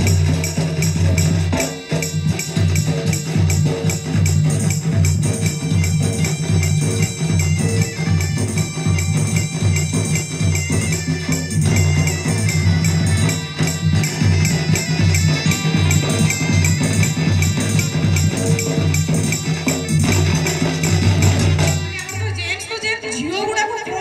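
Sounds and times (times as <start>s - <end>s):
jingling percussion: 0.0s - 24.0s
rhythmic drum beat: 0.0s - 24.0s
high wavering melody: 1.2s - 22.6s.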